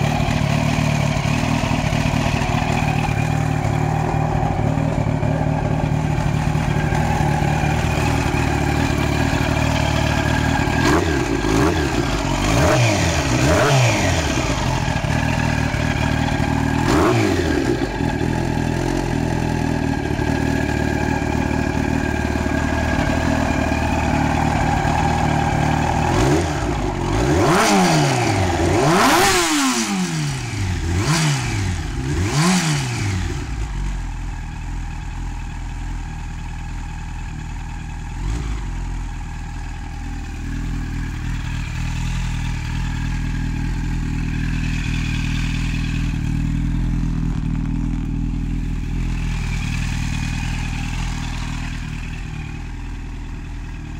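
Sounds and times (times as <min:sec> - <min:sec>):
motorcycle engine idling: 0:00.0 - 0:53.9
motorcycle engine revving: 0:00.0 - 0:53.9.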